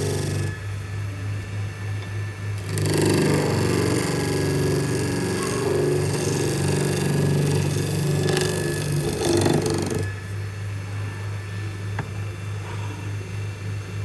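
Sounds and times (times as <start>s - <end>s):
workshop machine humming: 0.0s - 14.0s.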